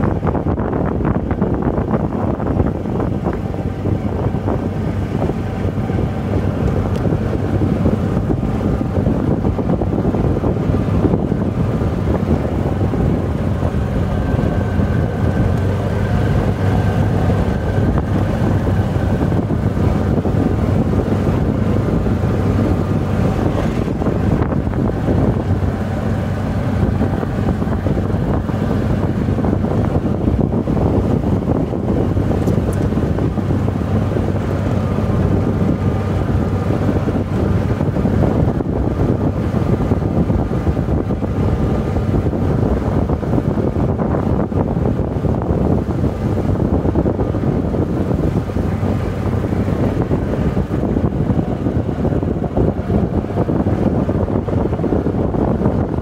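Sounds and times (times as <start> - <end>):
golf cart motor and tyres: 0.0 - 56.0
wind buffeting microphone: 0.0 - 56.0.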